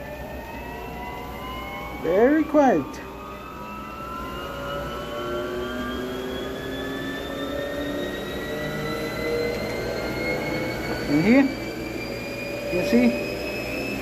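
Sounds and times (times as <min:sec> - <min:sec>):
treadmill motor whine: 0:00.0 - 0:14.0.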